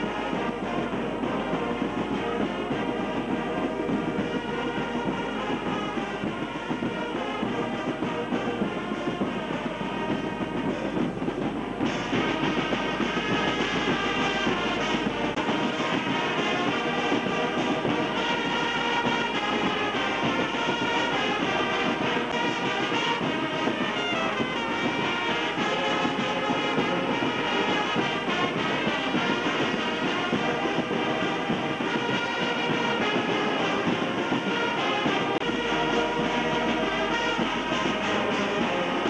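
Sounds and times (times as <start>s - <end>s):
music with held notes: 0.0s - 39.0s.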